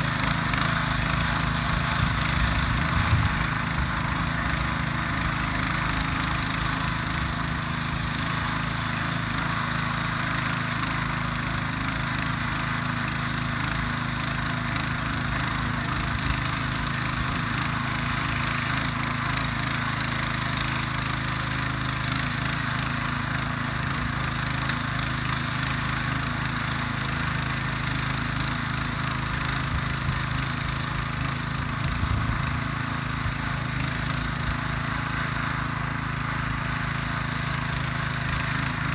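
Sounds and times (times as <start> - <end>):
rotary tiller churning soil: 0.0 - 38.9.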